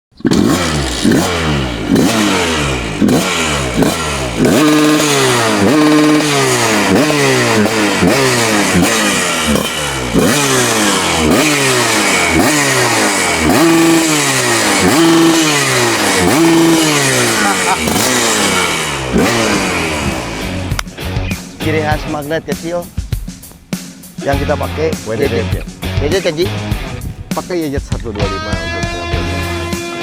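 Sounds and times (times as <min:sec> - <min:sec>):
motorcycle engine revving: 0:00.1 - 0:30.0.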